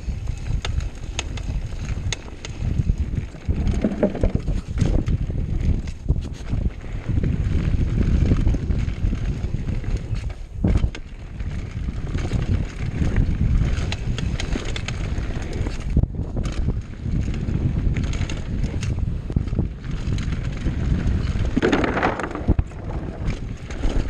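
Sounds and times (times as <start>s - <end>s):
bike clattering and rattling: 0.0s - 24.0s
wind buffeting microphone: 0.0s - 24.0s.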